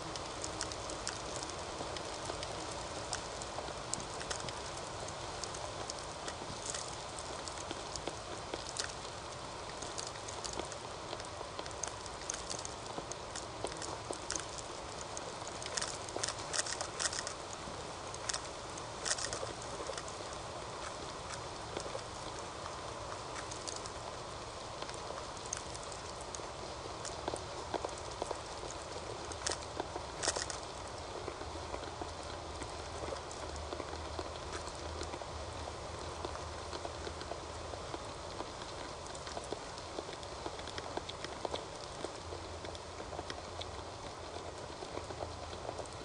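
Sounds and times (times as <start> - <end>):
deer crunching corn: 0.0 - 46.0
microphone hiss: 0.0 - 46.0.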